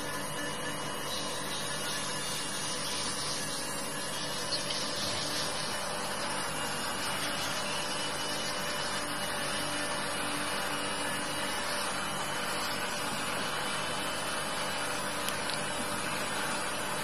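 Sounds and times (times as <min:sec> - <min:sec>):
electric nail drill filing: 0:00.0 - 0:17.0.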